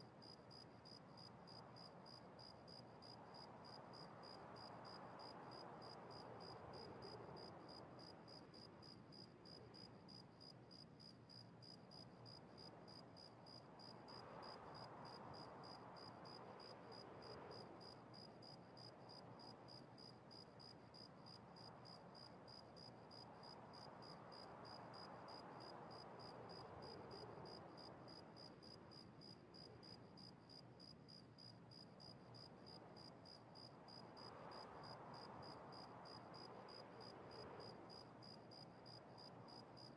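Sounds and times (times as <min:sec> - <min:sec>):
soft swells of noise: 0:00.0 - 0:39.9.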